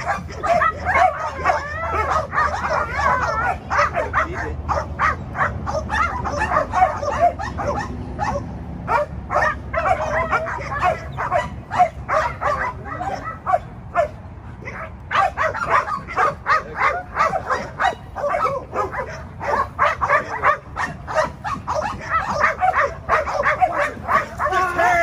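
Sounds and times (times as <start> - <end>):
dog whining and yipping: 0.0 - 24.6.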